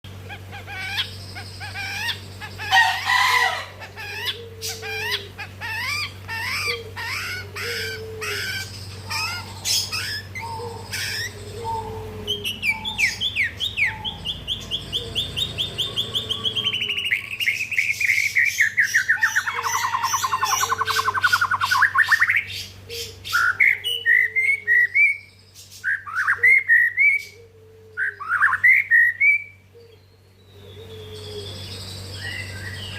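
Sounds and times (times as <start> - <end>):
bird singing varied song: 0.0 - 32.9
steady low hum: 0.0 - 32.9.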